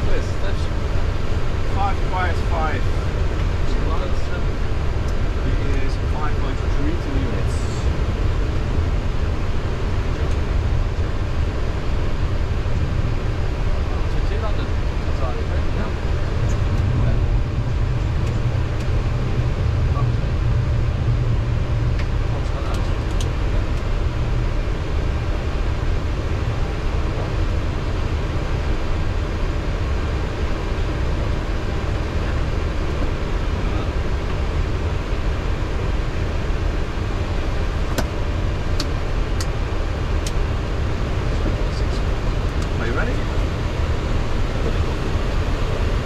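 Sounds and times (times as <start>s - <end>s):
jet engines idling: 0.0s - 46.0s.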